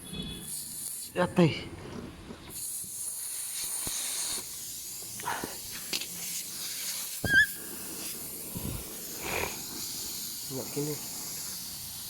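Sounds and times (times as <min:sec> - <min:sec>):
air hissing from tyre: 0:00.0 - 0:01.2, 0:02.2 - 0:12.0.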